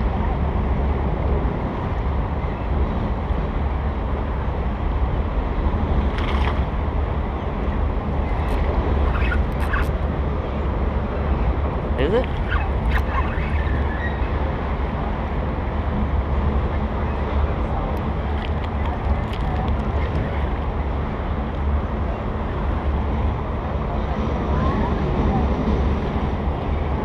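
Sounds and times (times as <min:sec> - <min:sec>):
river flowing over riffles: 0:00.0 - 0:27.0.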